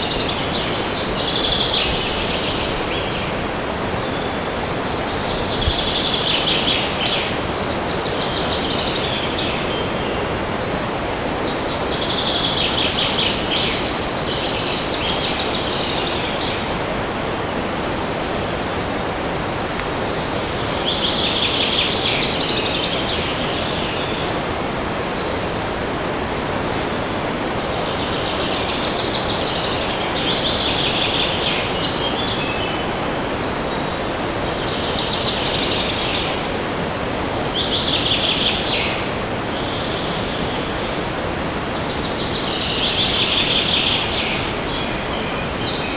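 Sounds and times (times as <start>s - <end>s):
wind rushing through forest: 0.0s - 45.9s.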